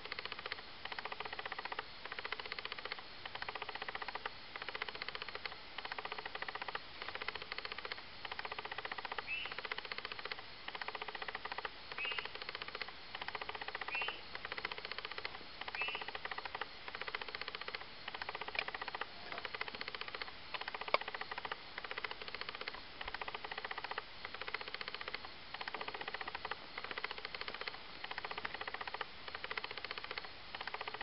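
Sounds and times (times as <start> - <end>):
sharp clicks: 0.0 - 31.0.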